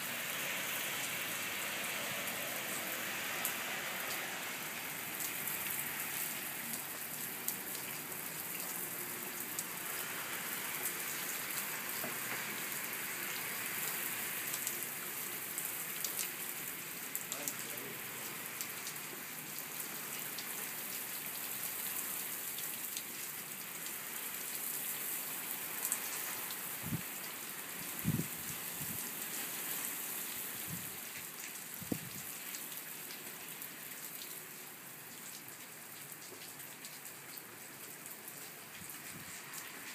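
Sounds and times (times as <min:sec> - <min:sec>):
steady rain on tiled roof: 0:00.0 - 0:39.9.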